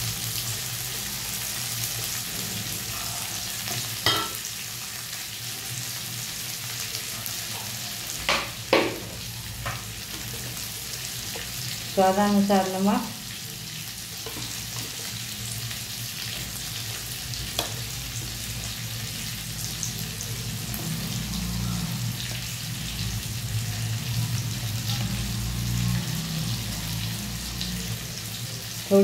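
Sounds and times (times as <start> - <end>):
oil sizzling in pan: 0.0 - 29.0.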